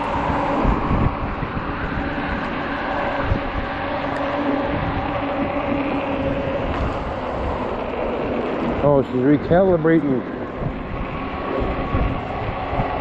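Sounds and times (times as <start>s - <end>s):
electric bike motor hum: 0.0s - 13.0s
tyre noise on road: 0.0s - 13.0s
wind on microphone: 0.0s - 13.0s.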